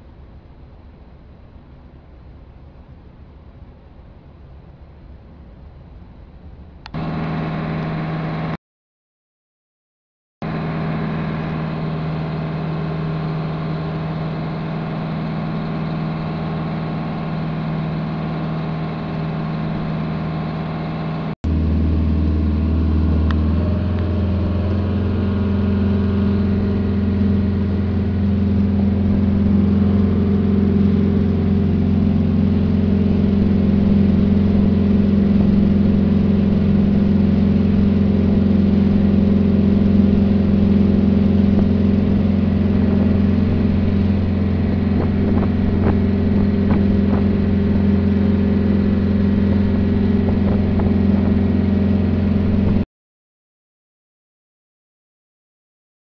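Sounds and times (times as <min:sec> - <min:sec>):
boat engine humming: 0:00.0 - 0:08.6, 0:10.4 - 0:52.8.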